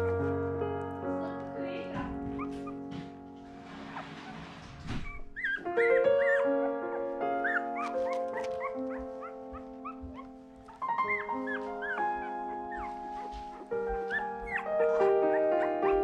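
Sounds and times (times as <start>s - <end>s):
background music with held notes: 0.0s - 16.0s
puppies squeaking and whimpering: 2.2s - 16.0s.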